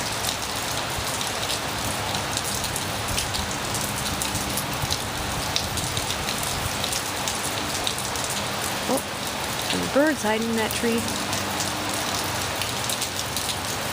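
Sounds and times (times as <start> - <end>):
heavy rain on hard surfaces: 0.0 - 13.9.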